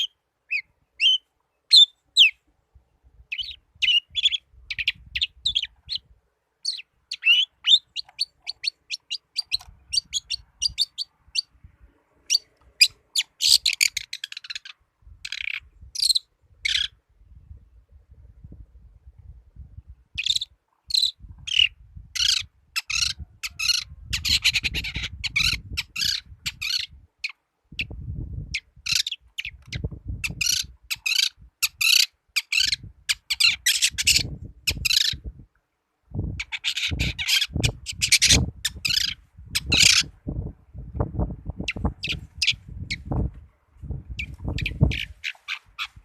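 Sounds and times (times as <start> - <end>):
bird harsh chirps and chattering: 0.0 - 2.4, 3.3 - 11.5, 12.2 - 17.0, 20.1 - 35.2, 36.4 - 40.1, 41.6 - 43.2, 44.1 - 46.0.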